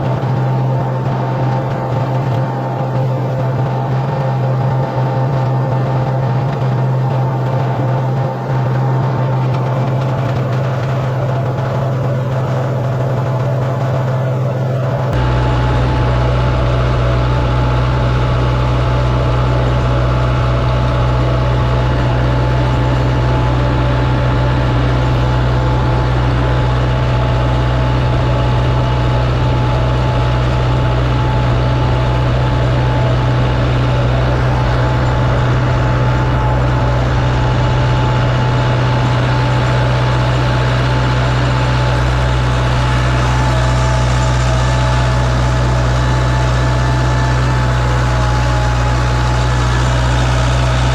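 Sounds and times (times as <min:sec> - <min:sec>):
tractor engine droning: 0:00.0 - 0:50.9.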